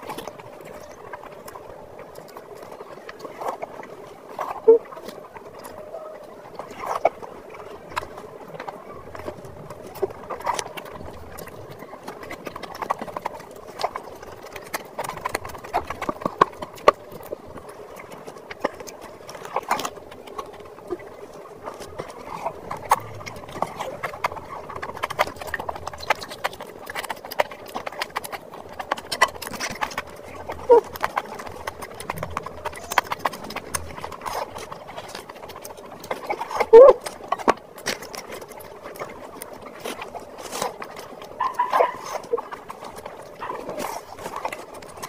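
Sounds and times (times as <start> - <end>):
chewing and lip-smacking: 0.0 - 45.0
squelching oily food: 0.0 - 45.0.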